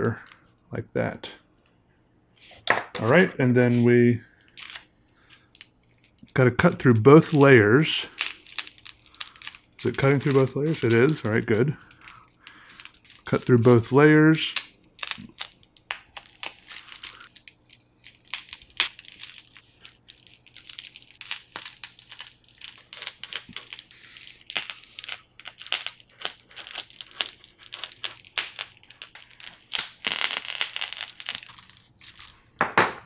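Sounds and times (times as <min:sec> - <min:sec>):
plastic crinkling: 0:04.4 - 0:32.8
knife cutting crinkly plastic: 0:04.6 - 0:32.6.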